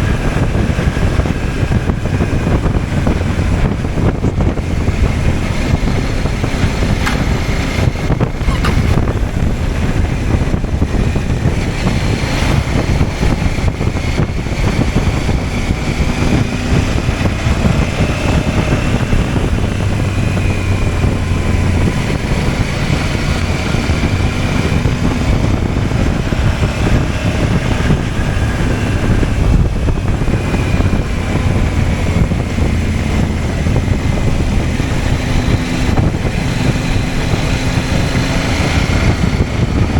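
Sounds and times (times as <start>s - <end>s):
motorcycle engine running: 0.0s - 39.9s
road noise: 0.0s - 39.9s
wind rush: 0.0s - 39.9s.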